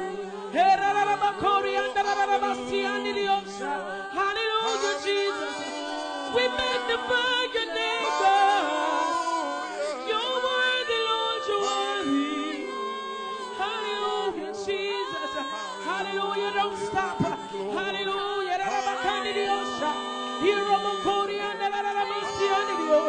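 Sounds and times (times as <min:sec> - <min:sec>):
group singing gospel song: 0:00.0 - 0:23.0.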